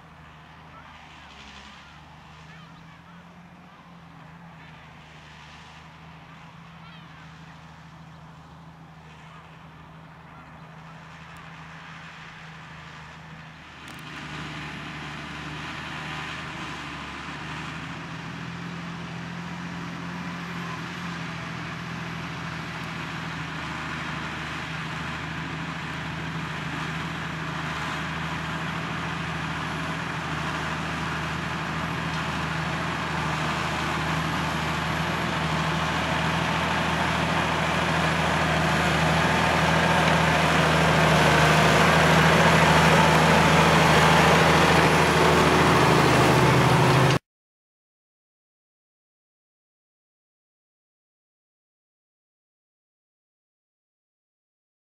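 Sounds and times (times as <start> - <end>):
tractor diesel engine under load: 0.0 - 47.2.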